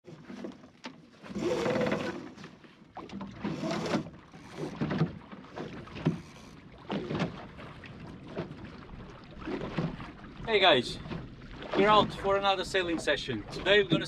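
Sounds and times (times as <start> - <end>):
water splashing along boat hull: 0.0 - 14.0.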